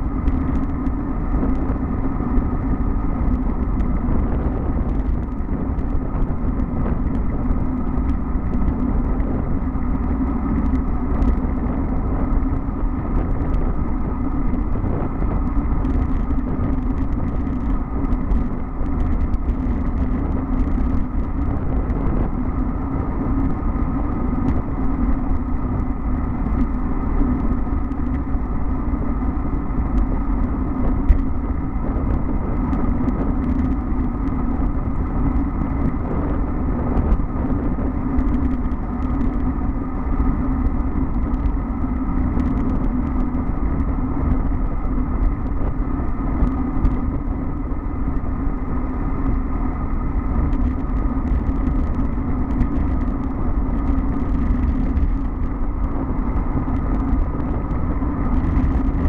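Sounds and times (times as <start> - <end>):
bike tyres humming on asphalt: 0.0 - 59.0
wind buffeting microphone: 0.0 - 59.0.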